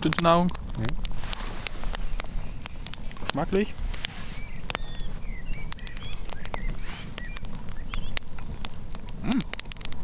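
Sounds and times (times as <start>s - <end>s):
campfire crackling: 0.0s - 10.0s
small birds chirping: 0.0s - 10.0s.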